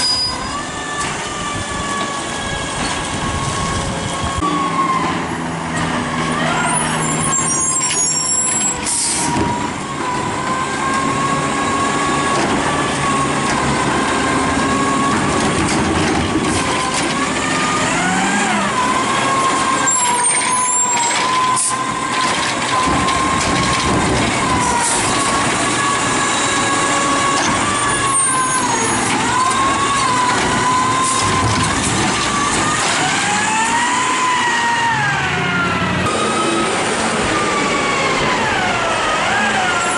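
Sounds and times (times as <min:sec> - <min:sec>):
garbage truck hydraulic whine: 0:00.0 - 0:39.9.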